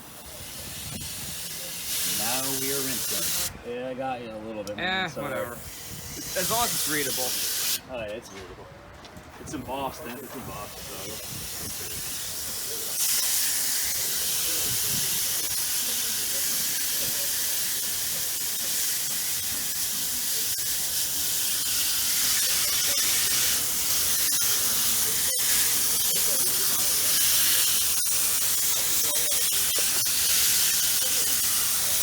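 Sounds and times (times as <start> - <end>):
water spraying from hose on metal: 0.1 - 3.5, 5.6 - 7.8, 10.5 - 32.0.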